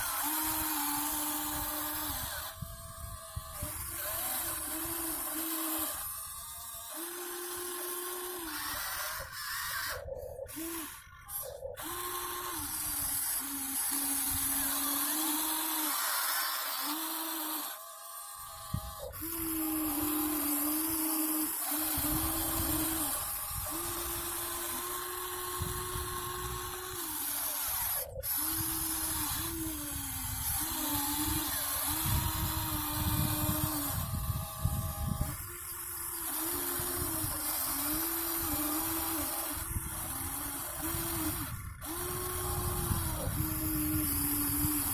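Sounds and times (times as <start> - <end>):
small electric motors whining: 0.0 - 44.9.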